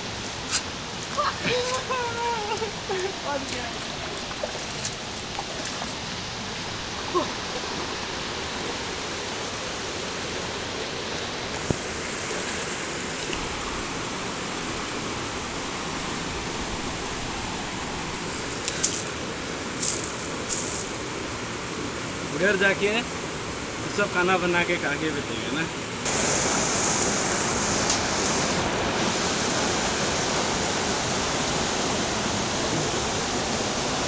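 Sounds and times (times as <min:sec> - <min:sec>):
river rushing over rocks: 0:00.0 - 0:34.0.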